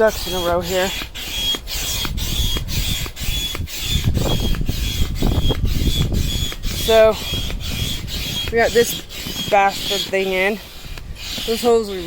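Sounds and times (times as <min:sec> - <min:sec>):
rubbing and scraping on kayak: 0:00.0 - 0:12.0.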